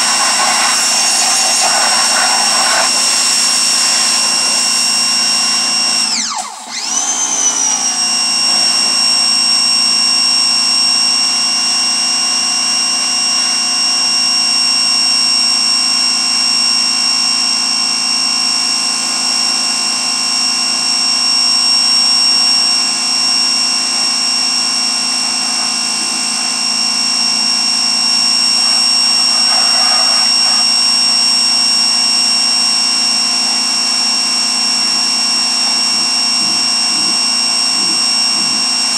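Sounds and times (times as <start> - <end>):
pressure washer whine: 0.0 - 38.9.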